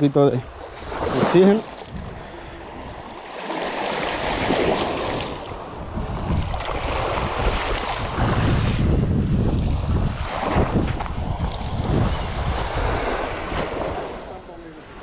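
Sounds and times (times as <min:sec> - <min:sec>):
small waves splashing: 0:00.4 - 0:15.0
wind rumbling on microphone: 0:00.4 - 0:15.0.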